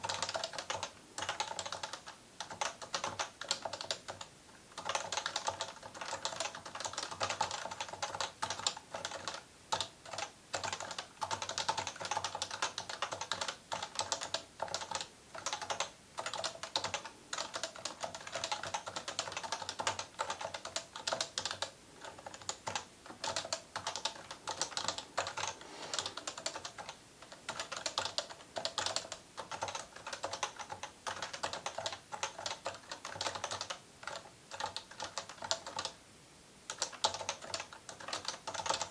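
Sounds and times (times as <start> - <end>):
fast keyboard typing: 0.0 - 36.0, 36.7 - 38.9.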